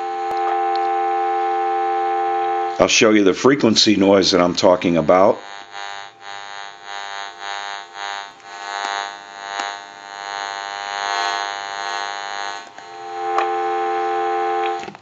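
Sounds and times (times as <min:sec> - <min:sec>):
electronic buzzing hum: 0:00.0 - 0:15.0.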